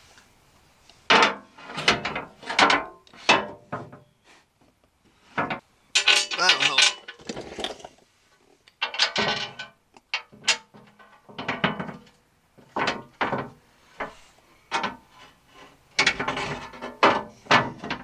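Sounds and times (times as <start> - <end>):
metal plate and tools clanking: 1.1 - 4.1, 5.3 - 7.9, 8.8 - 18.0.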